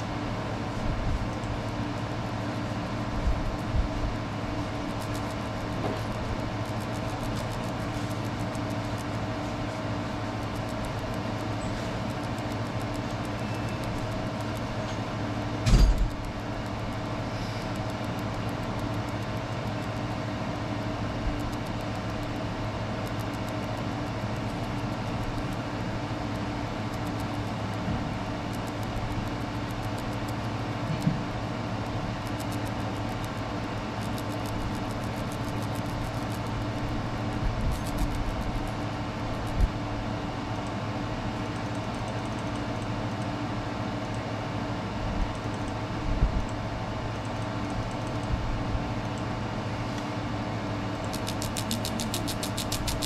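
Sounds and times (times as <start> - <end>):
laser engraver humming: 0.0 - 49.8, 50.6 - 53.0.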